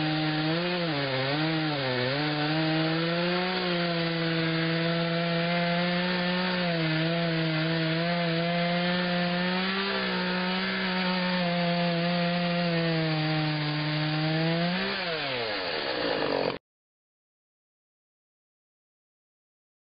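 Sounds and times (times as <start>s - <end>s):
chainsaw cutting log: 0.0s - 16.6s.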